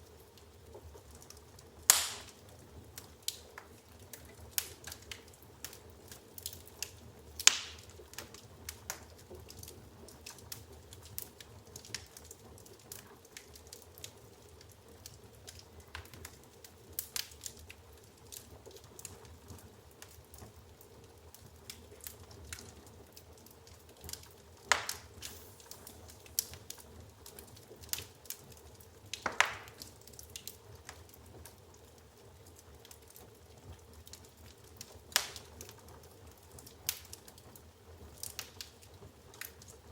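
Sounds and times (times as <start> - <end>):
fire crackling: 0.0 - 39.9
sharp pops of burning wood: 0.8 - 14.1, 15.1 - 19.2, 21.7 - 31.9, 34.0 - 39.8.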